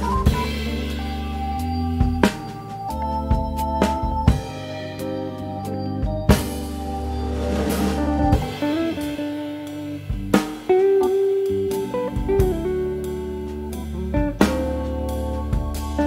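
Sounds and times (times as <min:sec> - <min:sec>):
drum kit: 0:00.0 - 0:16.0
guitar with sliding notes: 0:00.0 - 0:16.0.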